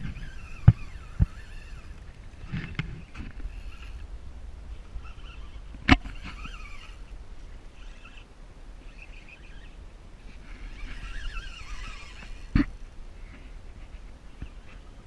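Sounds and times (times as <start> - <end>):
fishing reel gears whirring: 0.0 - 4.1, 4.7 - 13.0.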